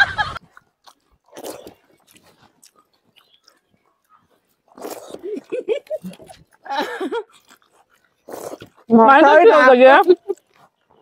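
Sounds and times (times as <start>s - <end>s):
chewing and crunching food: 0.2s - 11.0s.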